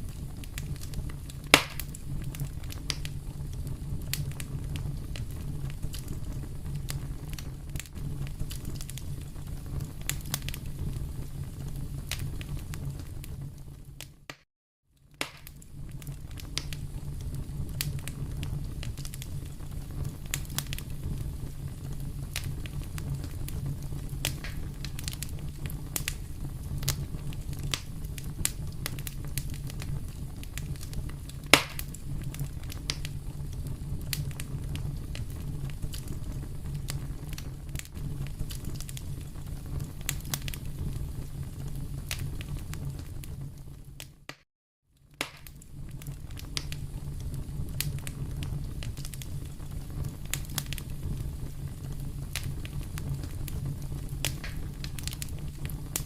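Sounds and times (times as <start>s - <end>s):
low rumble of flames: 0.0s - 14.4s, 15.0s - 44.4s, 45.0s - 56.0s
wood fire crackling: 0.0s - 14.4s, 15.0s - 44.4s, 45.0s - 56.0s
sharp pops of burning wood: 0.1s - 11.1s, 15.1s - 36.2s, 36.8s - 41.1s, 45.1s - 51.3s, 52.1s - 56.0s.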